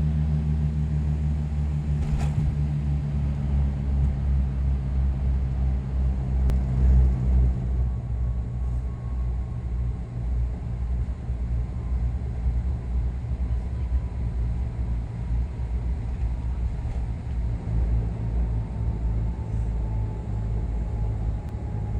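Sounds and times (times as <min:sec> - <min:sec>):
turboprop cabin drone: 0:00.0 - 0:21.9.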